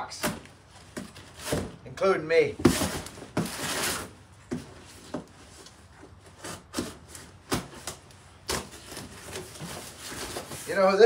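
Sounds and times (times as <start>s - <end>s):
cardboard scraping and rustling: 0.1s - 1.8s, 2.4s - 11.0s.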